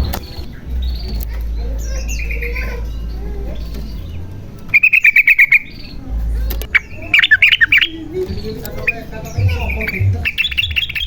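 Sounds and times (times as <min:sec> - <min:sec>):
bird singing bubbly chattering notes: 0:00.0 - 0:11.0.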